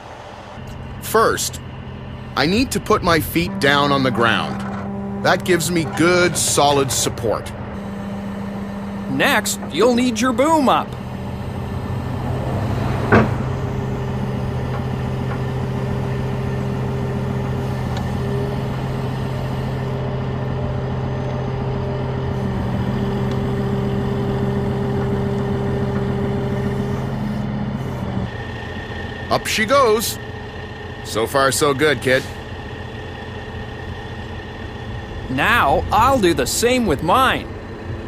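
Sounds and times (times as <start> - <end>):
truck engine running: 0.0 - 38.0.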